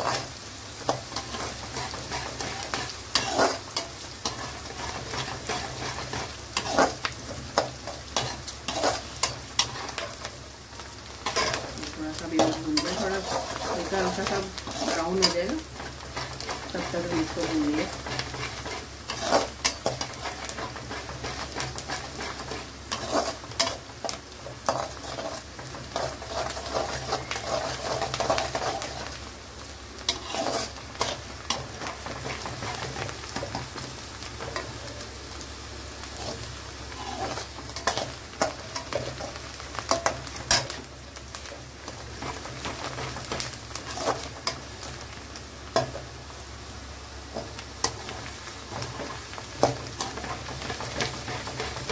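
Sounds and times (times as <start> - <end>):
metal spatula scraping a pan: 0.0 - 0.3, 0.9 - 10.2, 11.2 - 29.2, 30.1 - 33.6, 36.2 - 40.8, 42.2 - 44.6, 47.4 - 51.9
onion sizzling in hot oil: 0.0 - 51.9.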